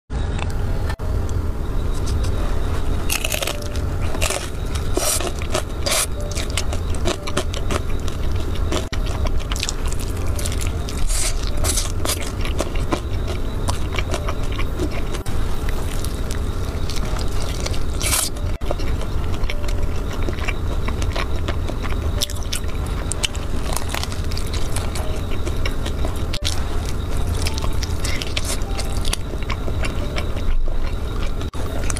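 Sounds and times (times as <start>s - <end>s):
low hum: 0.1s - 31.9s
crunching fried chicken: 3.0s - 31.9s
wet mouth sounds: 3.1s - 31.9s.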